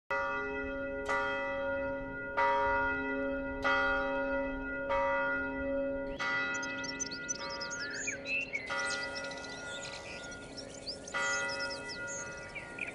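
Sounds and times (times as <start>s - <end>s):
church bell tolling: 0.1s - 12.9s.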